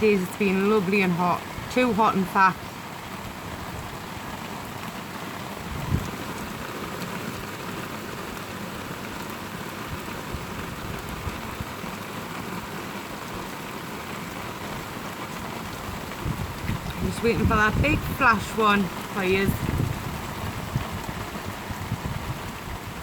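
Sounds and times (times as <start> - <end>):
heavy rain on surfaces: 0.0 - 23.0.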